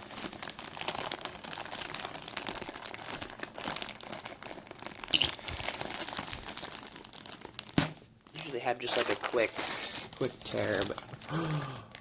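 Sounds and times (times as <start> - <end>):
package crinkling by hand: 0.0 - 12.0.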